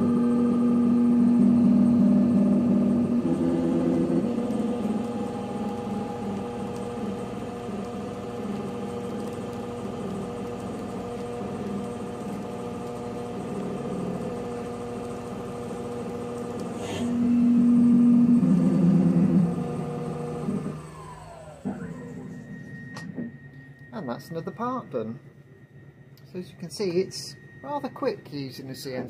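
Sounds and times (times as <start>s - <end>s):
lathe spindle humming: 0.0s - 24.8s.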